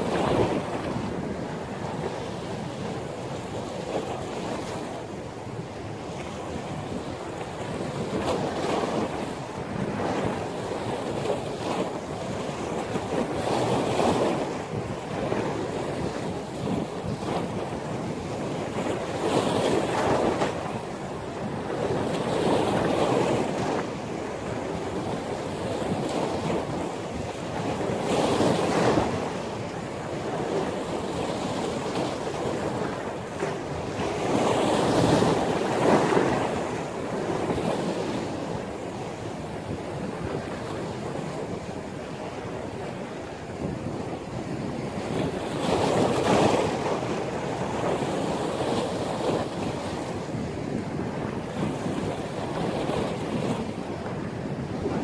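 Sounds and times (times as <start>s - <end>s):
ocean waves surging: 0.0s - 55.0s
wind buffeting microphone: 0.0s - 55.0s.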